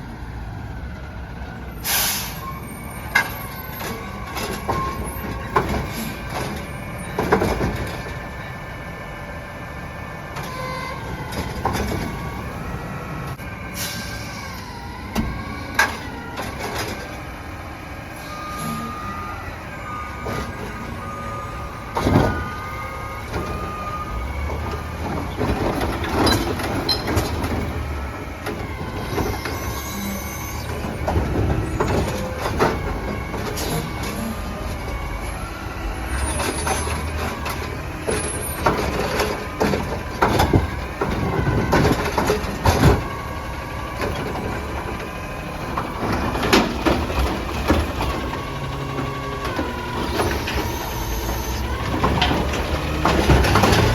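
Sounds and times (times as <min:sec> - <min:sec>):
garbage truck engine running: 0:00.0 - 0:53.9.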